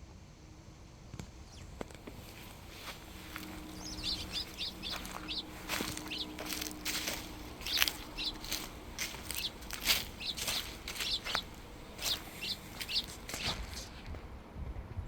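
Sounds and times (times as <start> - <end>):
footsteps crunching through dry leaves: 1.9 - 14.1.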